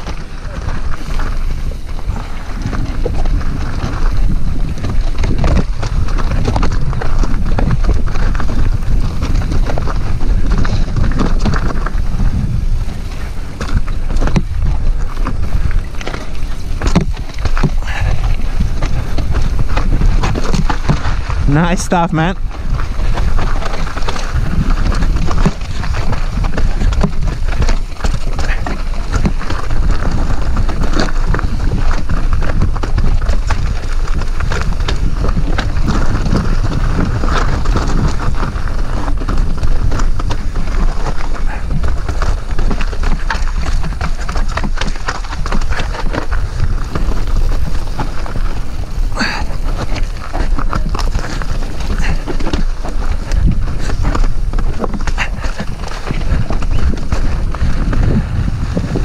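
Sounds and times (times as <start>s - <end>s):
bike rattling over rocks: 0.0s - 59.0s
wind buffeting microphone: 0.0s - 59.0s.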